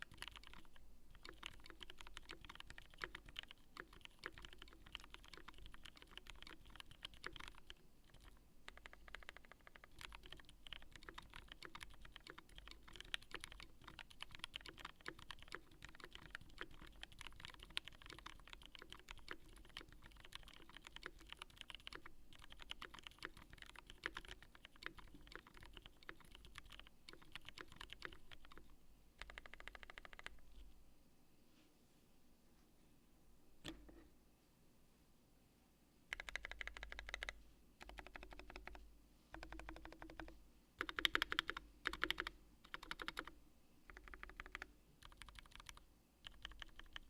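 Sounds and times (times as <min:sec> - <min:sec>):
mechanical keyboard typing: 0:00.0 - 0:30.4, 0:36.1 - 0:43.3, 0:43.9 - 0:47.0.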